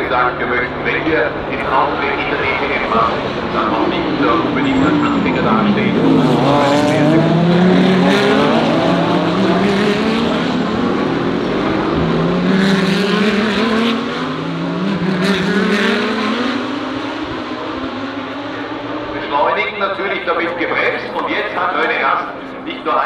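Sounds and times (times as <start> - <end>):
race car engines accelerating: 0.0 - 23.0.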